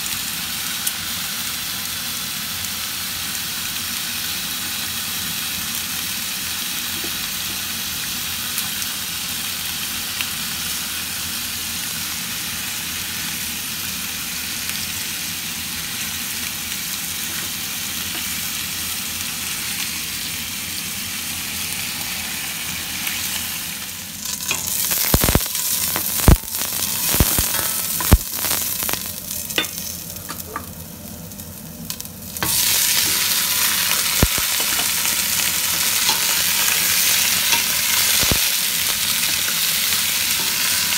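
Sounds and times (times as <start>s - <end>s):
chicken sizzling in oil: 0.0s - 40.9s.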